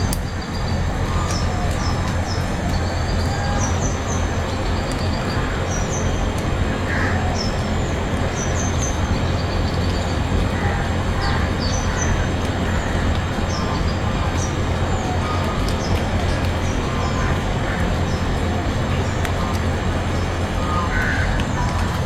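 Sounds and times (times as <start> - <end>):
lower bird calls: 0.0 - 22.0
steady rain: 0.0 - 22.0.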